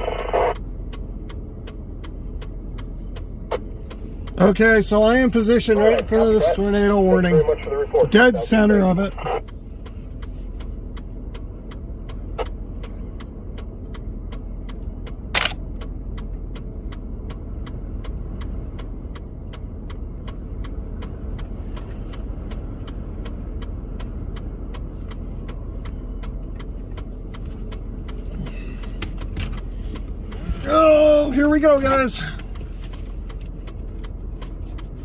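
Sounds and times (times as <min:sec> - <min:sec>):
low rumble inside car: 0:00.0 - 0:35.0.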